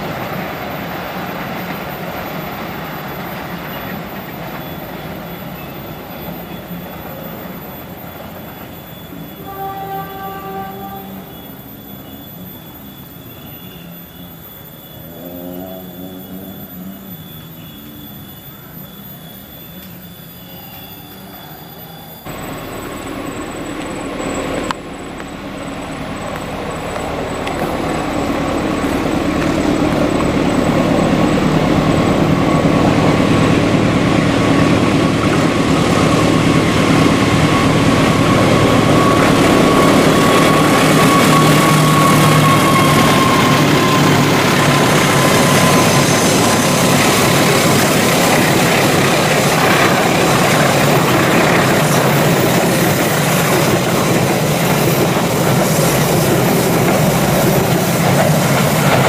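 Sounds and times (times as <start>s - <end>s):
diesel locomotive engine: 0.0s - 59.0s
train wheels rumbling: 0.0s - 59.0s
wheel squeal on curve: 0.0s - 59.0s.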